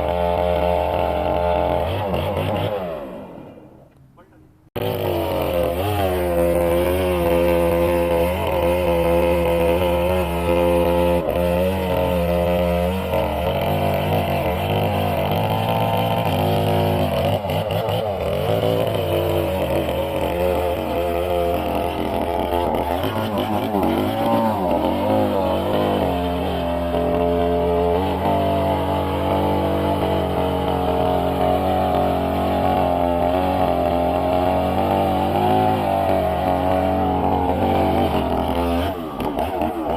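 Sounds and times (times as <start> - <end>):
sawmill machinery drone: 0.0 - 3.8, 4.8 - 39.9.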